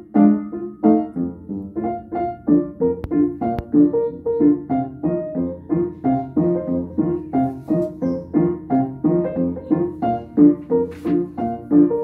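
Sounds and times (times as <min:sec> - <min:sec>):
ragtime piano: 0:00.0 - 0:12.0.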